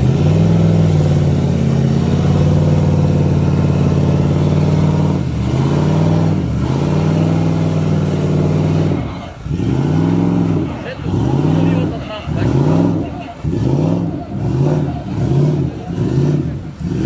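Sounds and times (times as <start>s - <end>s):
engine revving high: 0.0s - 17.0s.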